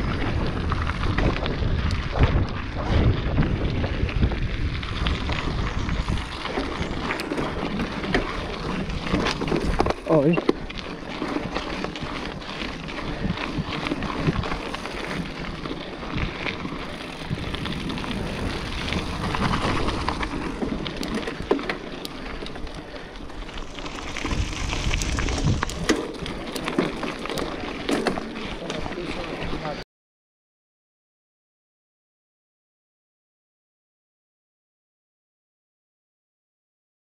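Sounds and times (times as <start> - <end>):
bike frame and chain rattling: 0.0 - 29.8
bike tyres rolling over dirt: 0.0 - 29.8.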